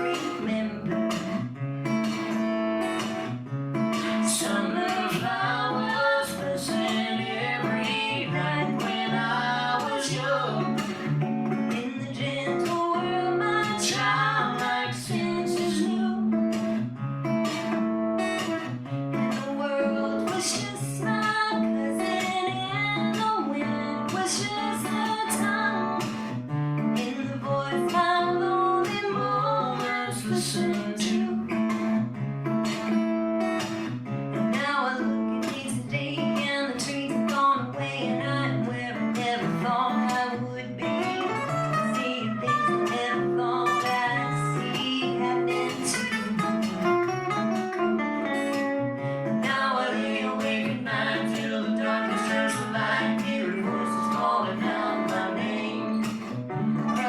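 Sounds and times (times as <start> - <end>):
person singing: 0.0 - 1.5, 3.9 - 16.8, 19.2 - 26.3, 27.0 - 31.8, 34.4 - 57.0
strummed acoustic guitar: 0.0 - 57.0.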